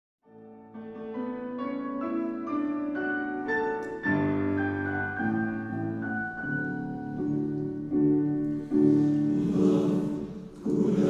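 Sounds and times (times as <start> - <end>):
piano introduction: 0.2 - 11.0.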